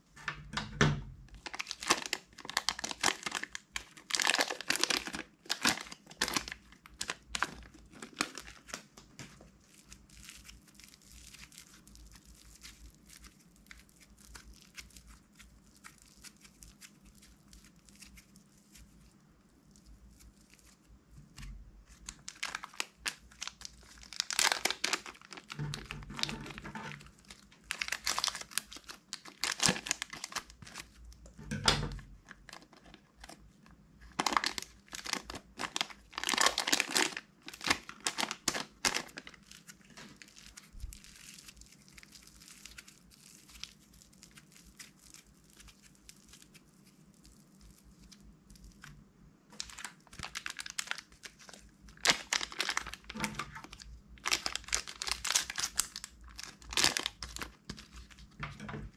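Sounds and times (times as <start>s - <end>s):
plastic bag crinkling: 0.0s - 48.9s, 49.5s - 58.9s.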